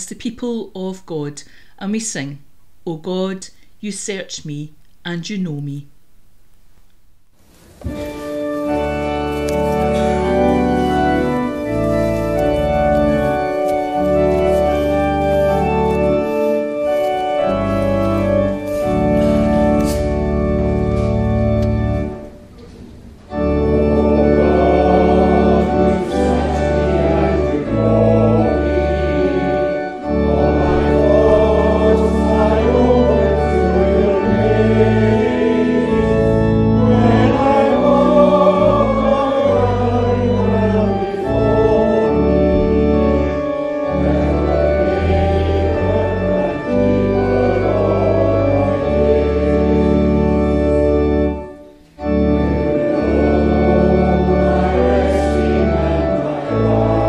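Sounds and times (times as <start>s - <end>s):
organ chords: 0.0s - 57.0s
voices singing a hymn: 7.8s - 22.4s, 23.3s - 57.0s.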